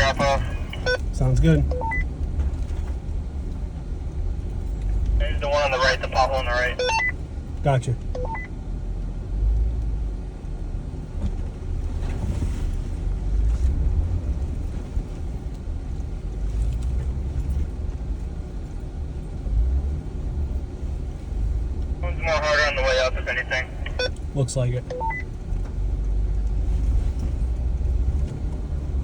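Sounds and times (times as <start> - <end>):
vehicle rumbling on dirt trail: 0.0 - 29.0.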